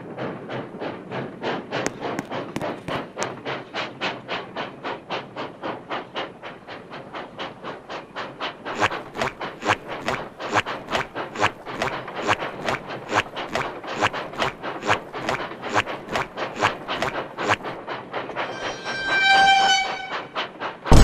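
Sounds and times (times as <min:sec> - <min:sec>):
train clacking rhythmically: 0:00.0 - 0:21.0.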